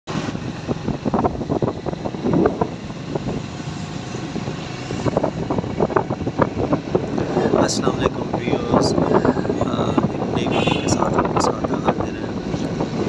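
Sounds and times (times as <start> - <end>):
vehicle on wet road: 0.1 - 13.0.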